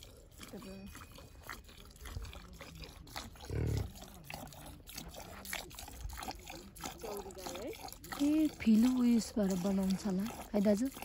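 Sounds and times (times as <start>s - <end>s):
milk squirting into wooden pail: 0.0s - 11.0s
animal grunt: 1.7s - 11.0s.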